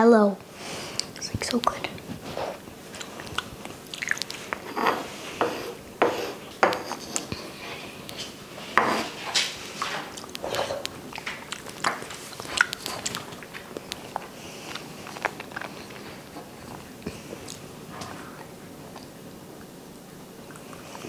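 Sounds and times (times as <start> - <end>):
wet mouth eating sounds: 2.4 - 19.7.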